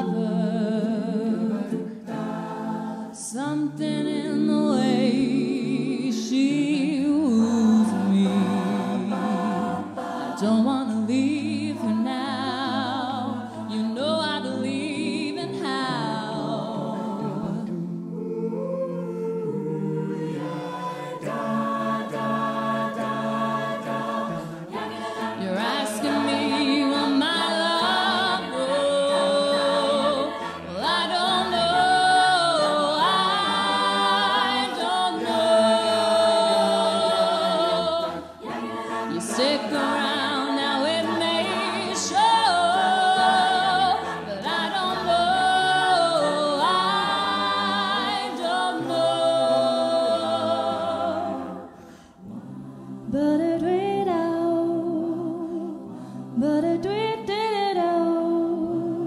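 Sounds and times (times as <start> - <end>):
backing vocal harmonies: 0.0 - 59.0.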